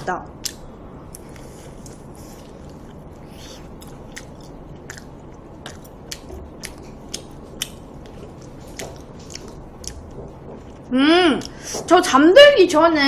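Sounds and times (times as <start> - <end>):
close chewing: 0.4 - 11.6.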